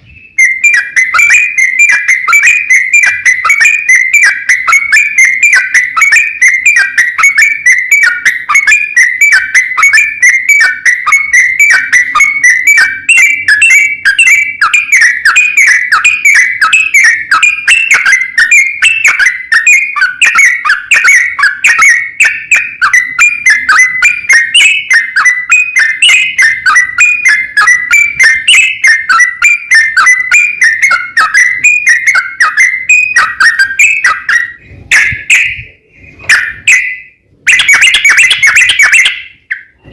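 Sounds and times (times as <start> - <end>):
bird singing rapid whistled notes: 0.0 - 39.9.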